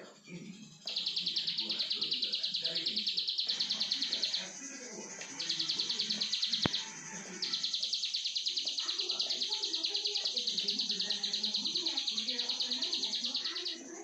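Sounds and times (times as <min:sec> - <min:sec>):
bird singing buzzy trill: 0:00.0 - 0:14.0.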